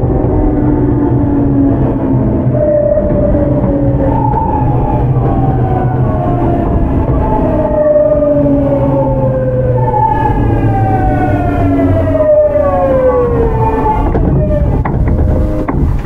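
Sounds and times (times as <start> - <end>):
traction motors humming: 0.0 - 16.0
train inverter whine: 0.0 - 16.0
wheels rumbling: 0.0 - 16.0.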